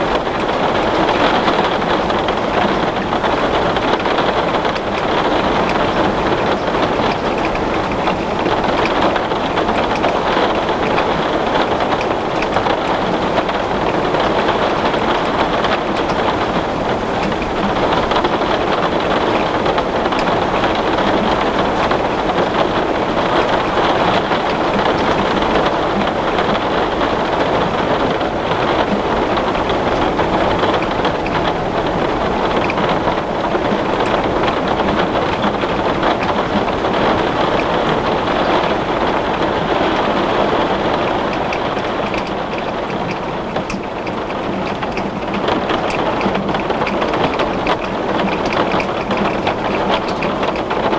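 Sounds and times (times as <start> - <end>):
heavy rain on glass: 0.0 - 50.9.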